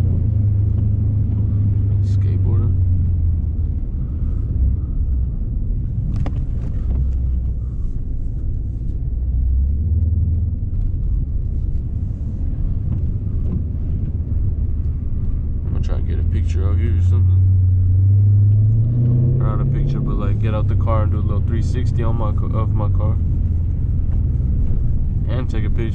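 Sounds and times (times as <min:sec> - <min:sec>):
car driving on wet road: 0:00.0 - 0:25.9.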